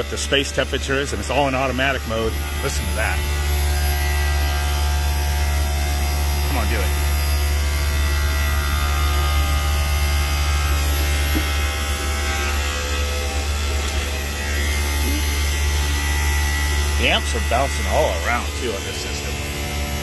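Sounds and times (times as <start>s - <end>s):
compressor humming loudly: 0.0s - 20.0s.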